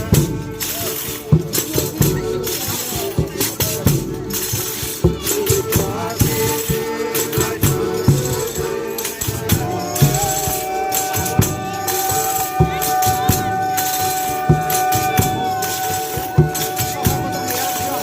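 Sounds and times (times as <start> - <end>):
people singing: 0.0 - 18.0
tambourines and rattles: 0.0 - 18.0.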